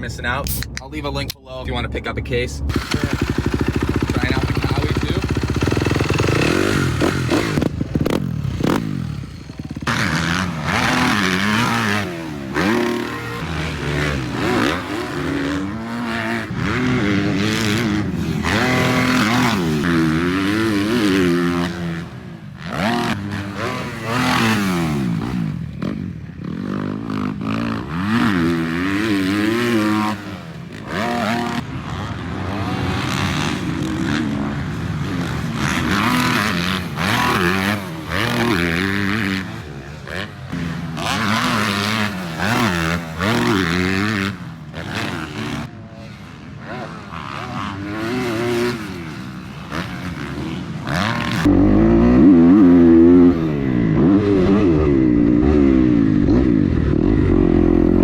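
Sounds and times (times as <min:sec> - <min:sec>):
dirt bike engine revving: 0:02.7 - 0:58.0.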